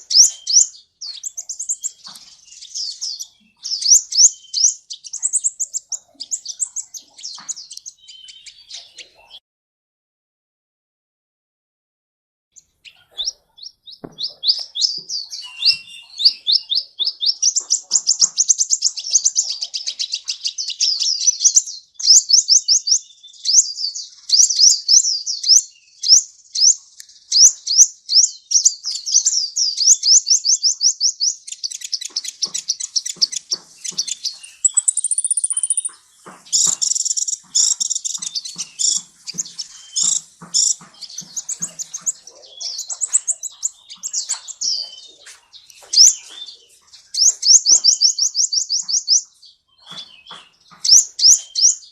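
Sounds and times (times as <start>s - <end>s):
sunbird singing: 0.0s - 9.4s, 12.6s - 51.9s.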